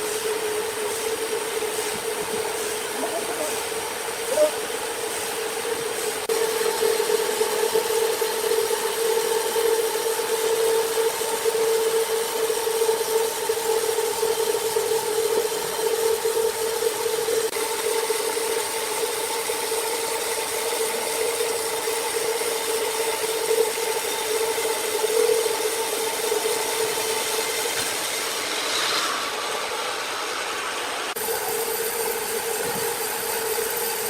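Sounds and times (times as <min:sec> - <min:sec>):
sawmill machinery whine: 0:00.0 - 0:34.0.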